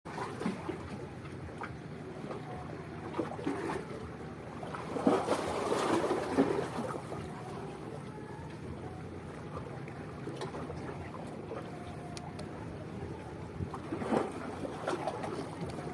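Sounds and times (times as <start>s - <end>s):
wind: 0.0s - 15.9s
small waves at water's edge: 0.1s - 15.9s.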